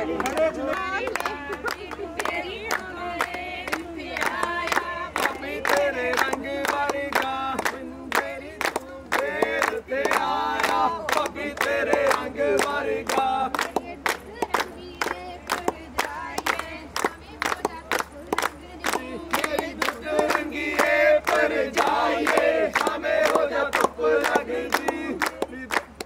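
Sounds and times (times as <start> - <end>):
group singing folk song: 0.0 - 26.0.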